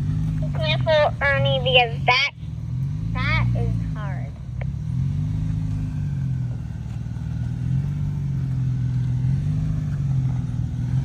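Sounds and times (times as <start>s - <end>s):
truck engine at low revs: 0.0s - 11.0s.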